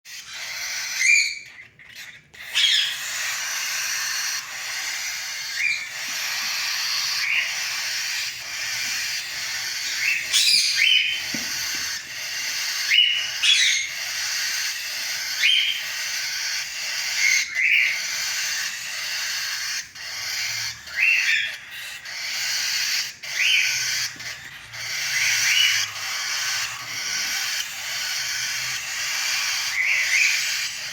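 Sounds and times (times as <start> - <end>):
chicks raspy hissing cry: 0.1 - 1.3, 2.2 - 30.9
chicks squeaky chirps: 0.1 - 30.9.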